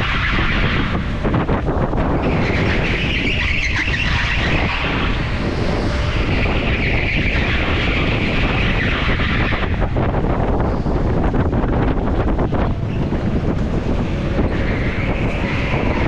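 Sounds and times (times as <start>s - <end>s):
go-kart engine and tyre rumble: 0.0s - 16.0s
high engine whine: 0.0s - 16.0s
wind noise on microphone: 0.0s - 16.0s.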